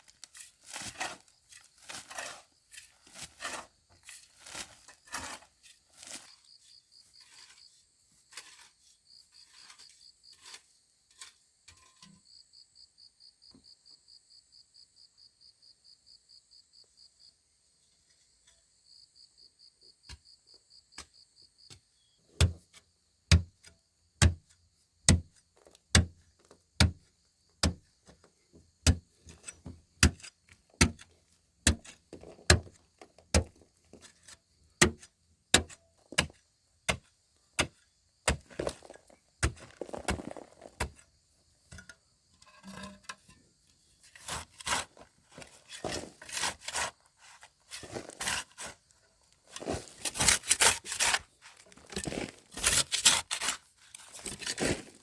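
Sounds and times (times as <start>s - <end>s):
cricket chirping: 6.0s - 31.9s, 32.6s - 54.8s.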